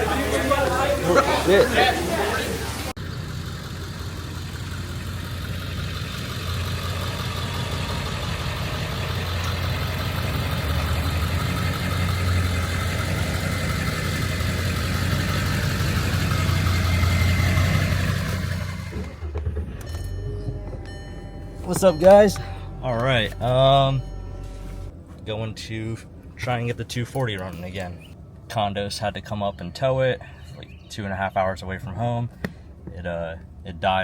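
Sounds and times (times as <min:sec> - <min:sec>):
vehicle engine droning: 0:00.0 - 0:34.0.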